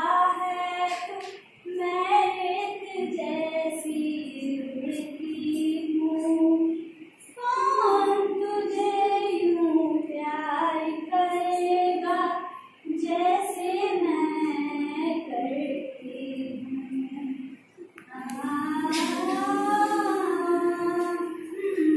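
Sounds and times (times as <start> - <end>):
woman singing unaccompanied: 0.0 - 21.9.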